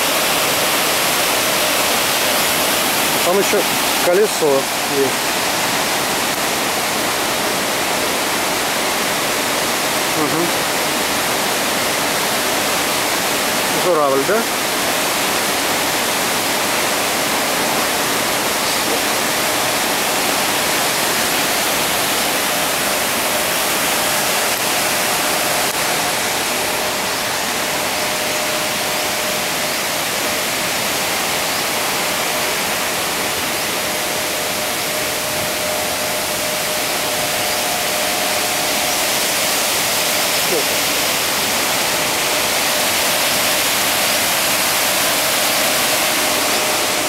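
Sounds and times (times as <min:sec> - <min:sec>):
waterfall and rapids rushing: 0:00.0 - 0:47.0.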